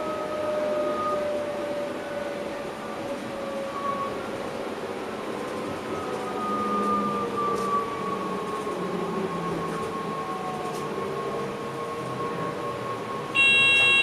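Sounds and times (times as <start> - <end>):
wheels rumbling on rails: 0.0 - 14.0
train traction motors whining: 1.8 - 14.0.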